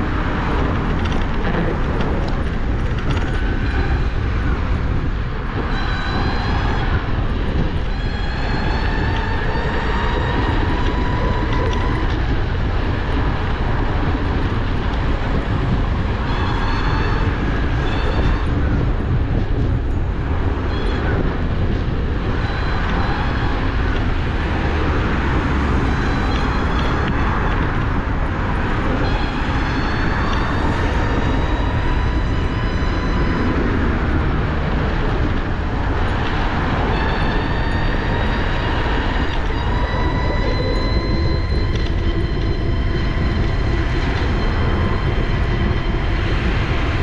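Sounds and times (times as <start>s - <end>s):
high electric motor whine: 0.0s - 47.0s
wind rushing over microphone: 0.0s - 47.0s.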